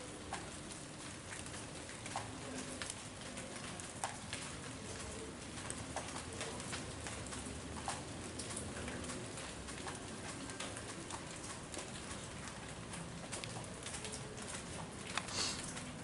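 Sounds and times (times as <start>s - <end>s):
steady rain falling: 0.0s - 16.0s
water drips and patters: 0.0s - 16.0s.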